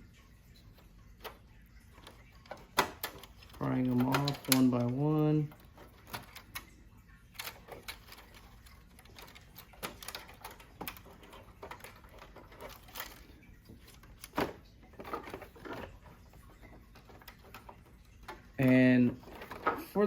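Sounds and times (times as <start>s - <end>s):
handling rustle: 0.8s - 6.8s, 7.4s - 20.0s.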